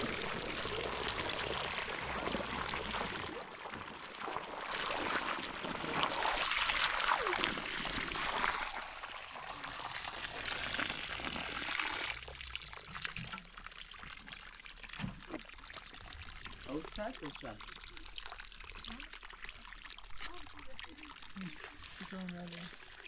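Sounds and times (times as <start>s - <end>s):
water pouring and splashing: 0.0s - 23.0s
water trickle: 0.0s - 23.0s.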